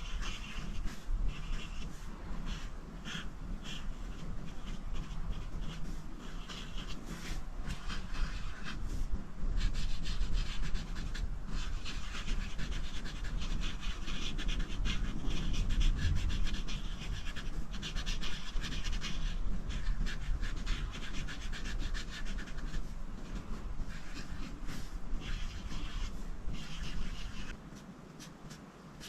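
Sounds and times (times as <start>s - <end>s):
coloring tool scratching on paper: 0.0s - 27.6s.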